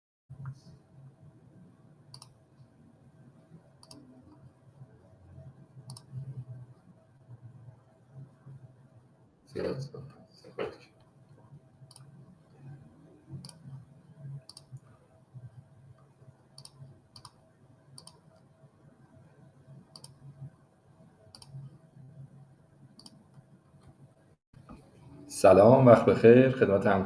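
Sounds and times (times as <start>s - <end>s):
faint low hum: 0.3s - 27.0s.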